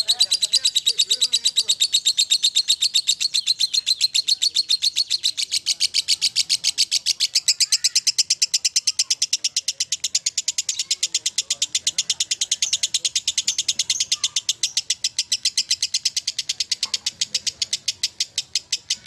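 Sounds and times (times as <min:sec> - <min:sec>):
lovebird chattering high chirps: 0:00.0 - 0:19.0.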